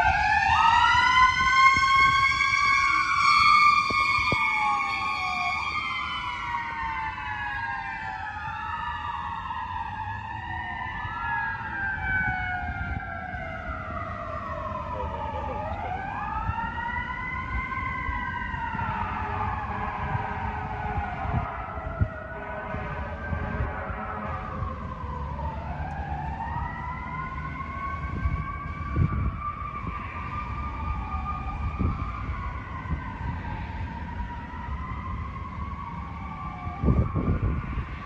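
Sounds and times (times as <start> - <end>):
fire engine sirens wailing: 0.0 - 38.0.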